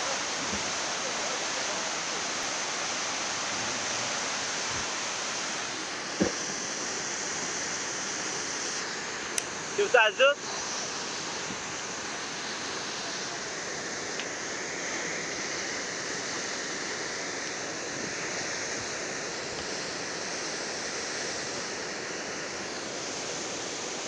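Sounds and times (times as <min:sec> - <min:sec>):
muddy water rushing: 0:00.0 - 0:24.0.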